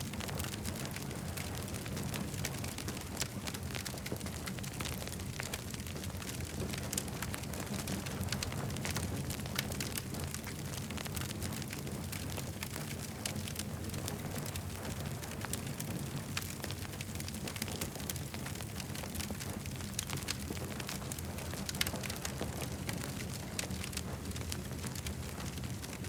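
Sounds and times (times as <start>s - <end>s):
campfire crackling and popping: 0.0s - 26.0s
fire flames rumbling: 0.0s - 26.0s.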